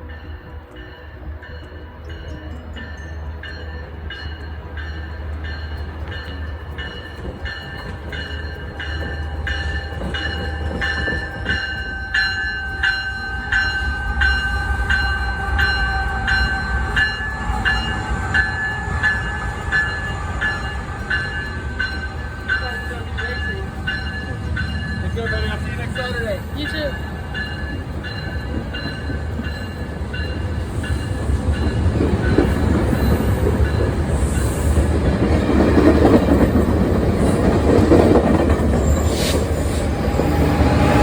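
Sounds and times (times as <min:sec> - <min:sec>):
train bell ringing: 0:00.0 - 0:41.0
train rumble: 0:00.0 - 0:41.0.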